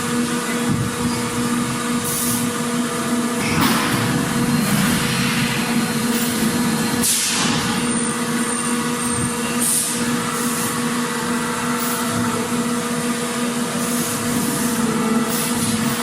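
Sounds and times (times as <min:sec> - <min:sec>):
factory machinery humming: 0:00.0 - 0:16.0.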